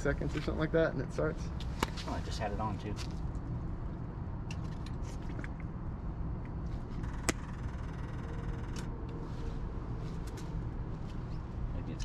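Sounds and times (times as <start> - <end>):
faint steady hum: 0.0 - 12.0
steady low rumble: 0.0 - 12.0.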